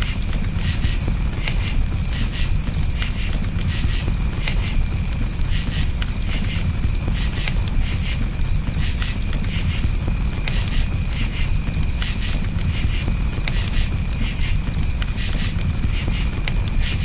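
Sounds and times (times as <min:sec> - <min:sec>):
campfire crackling: 0:00.0 - 0:17.0
crickets chirping: 0:00.0 - 0:17.0.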